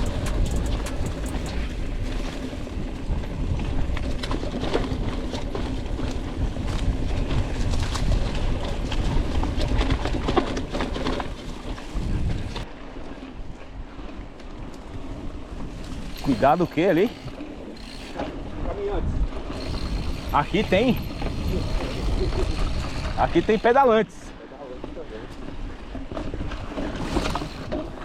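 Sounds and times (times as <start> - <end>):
bike rattling and clicking: 0.0 - 12.7, 14.6 - 24.2, 25.3 - 28.0
wind buffeting microphone: 0.0 - 12.7, 13.3 - 23.8.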